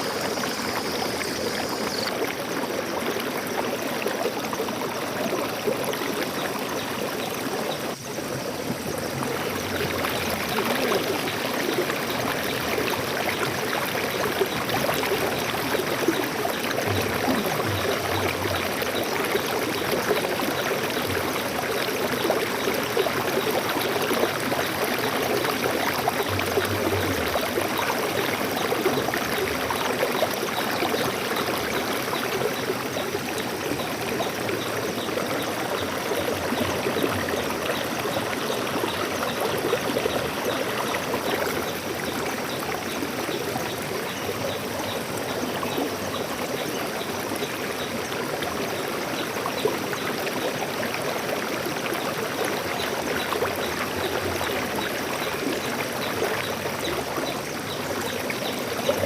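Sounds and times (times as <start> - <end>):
stream water rushing: 0.0 - 59.0
water gurgling: 0.0 - 59.0.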